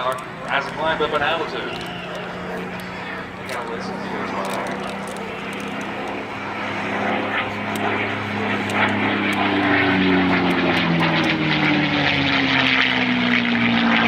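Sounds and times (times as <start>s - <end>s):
propeller aircraft engine running hard: 0.0s - 14.0s.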